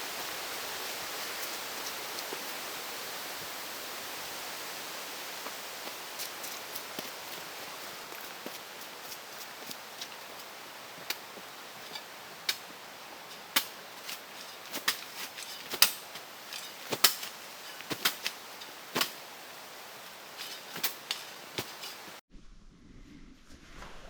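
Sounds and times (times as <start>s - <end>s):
faint steady hiss: 0.0s - 22.2s.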